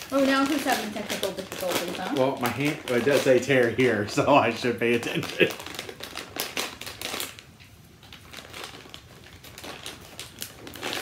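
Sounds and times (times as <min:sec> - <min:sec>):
plastic chip bag crinkling: 0:00.0 - 0:11.0.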